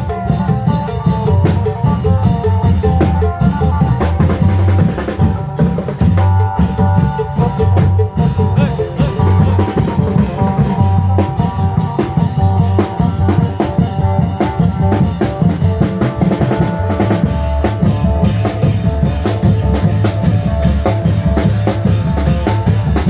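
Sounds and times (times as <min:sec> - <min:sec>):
fast drum rhythm: 0:00.0 - 0:23.0.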